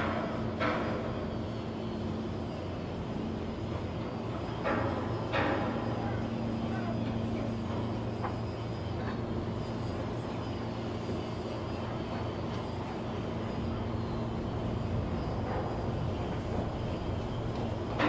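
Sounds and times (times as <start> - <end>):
heavy machinery droning: 0.0 - 18.0.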